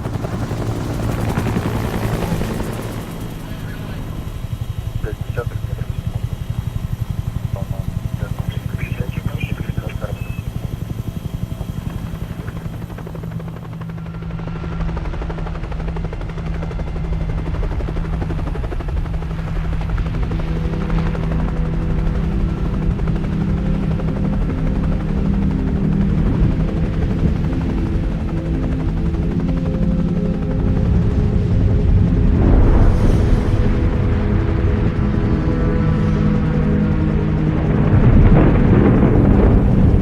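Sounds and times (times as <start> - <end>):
helicopter rotor chop: 0.0 - 40.0.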